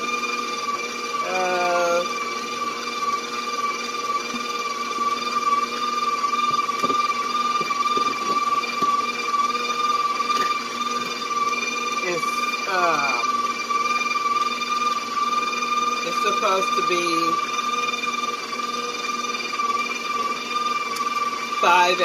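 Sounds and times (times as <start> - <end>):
electric mixer whine: 0.0 - 22.0.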